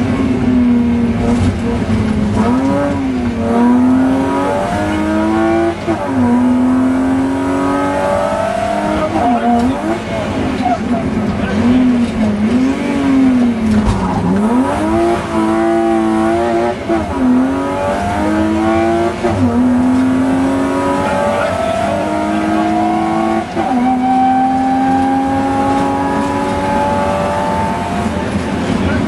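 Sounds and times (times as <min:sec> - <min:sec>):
rally car engine accelerating: 0:00.0 - 0:29.0.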